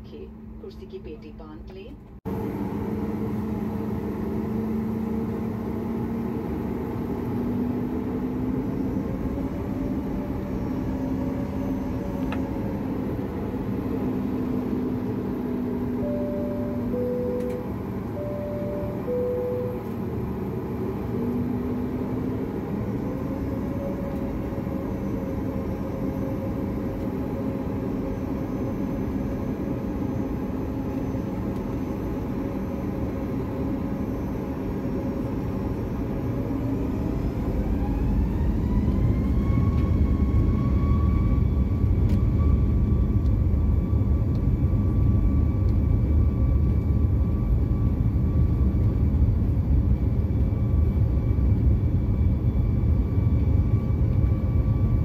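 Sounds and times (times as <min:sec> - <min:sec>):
jet engines whining and rumbling: 0:00.0 - 0:55.0.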